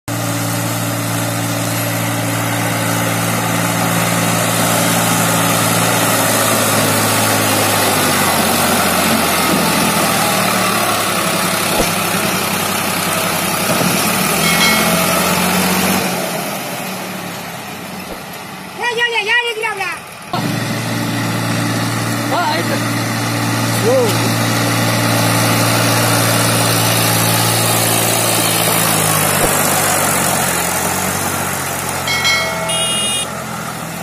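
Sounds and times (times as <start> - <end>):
diesel tractor engine running: 0.1 - 34.0.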